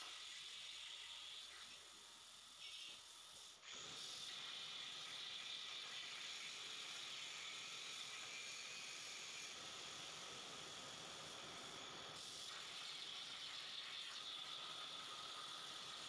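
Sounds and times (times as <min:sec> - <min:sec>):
plasma cutter hissing: 0:00.0 - 0:16.0.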